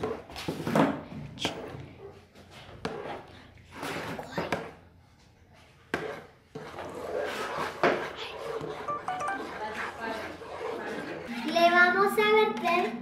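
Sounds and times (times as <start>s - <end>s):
spoon stirring thick mixture: 0.0s - 0.6s, 1.4s - 13.0s.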